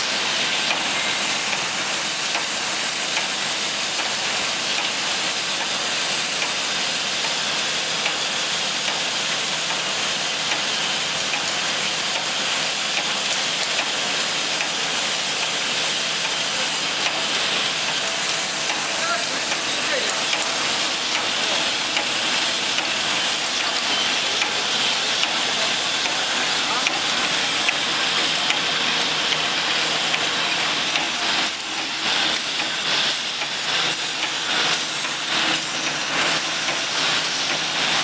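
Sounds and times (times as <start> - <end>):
machine running with high hiss: 0.0 - 38.0.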